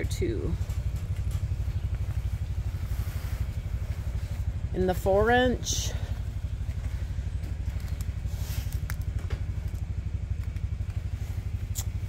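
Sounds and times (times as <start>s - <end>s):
pulsing motor drone: 0.0s - 12.0s.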